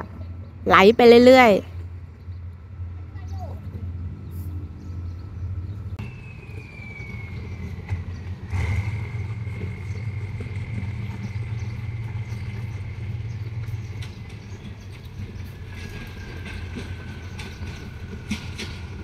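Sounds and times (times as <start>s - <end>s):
diesel railcar engine running: 0.0s - 19.0s.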